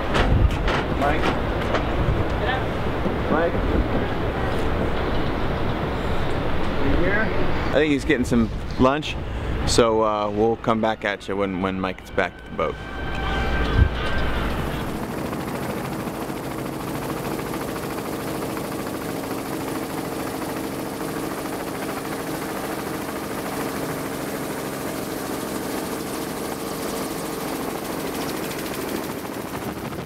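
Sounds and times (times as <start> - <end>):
helicopter rotor and engine noise: 0.0 - 30.0
multi-tone hum: 0.0 - 30.0.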